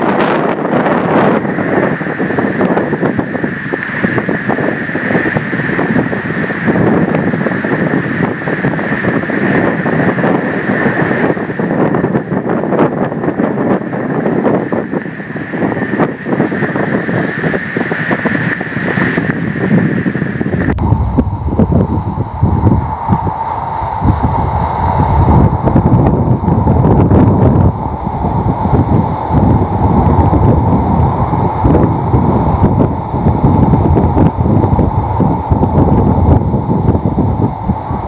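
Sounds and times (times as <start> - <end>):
steady high tone: 0.0 - 38.0
wind buffeting microphone: 0.0 - 38.0.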